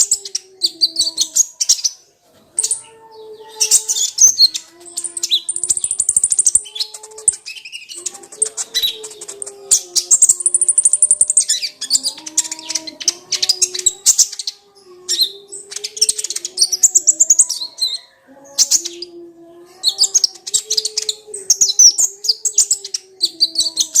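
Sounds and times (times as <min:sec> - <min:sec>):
bird twittering and trilling: 0:00.0 - 0:24.0.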